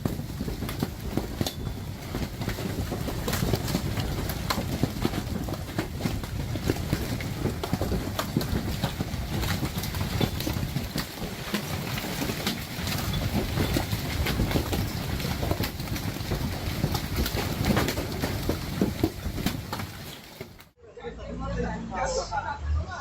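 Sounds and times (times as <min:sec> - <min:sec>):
hailstones pounding: 0:00.0 - 0:20.7.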